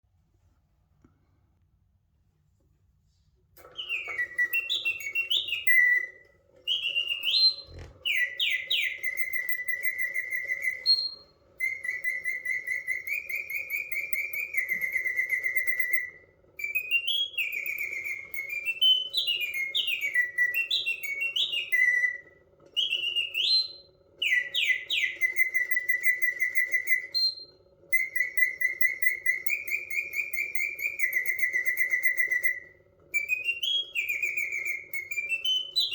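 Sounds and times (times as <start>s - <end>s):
clockwork movement whirring: 3.6s - 32.7s
mechanical bird chirps and trills: 3.6s - 35.9s.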